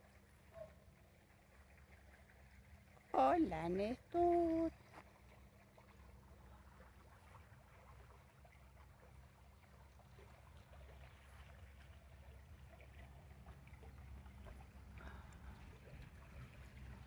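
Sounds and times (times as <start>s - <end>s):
faint low outdoor rumble: 0.0s - 17.0s.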